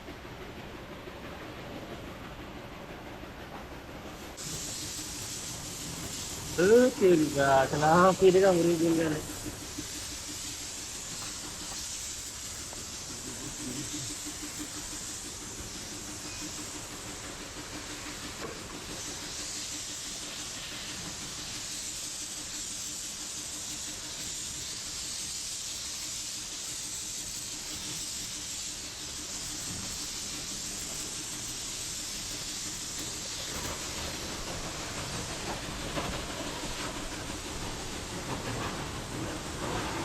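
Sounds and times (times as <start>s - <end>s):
pressure washer spraying water: 4.4s - 38.1s.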